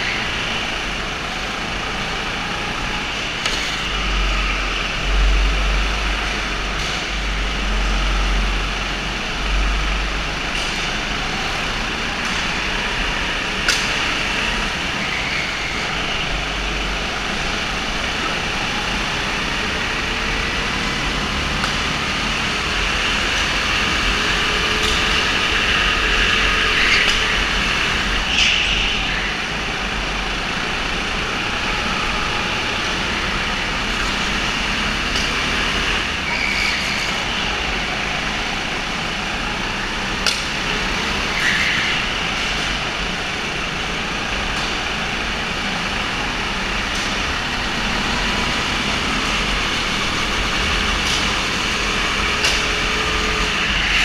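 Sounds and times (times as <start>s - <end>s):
go-kart engines running: 0.0s - 54.0s.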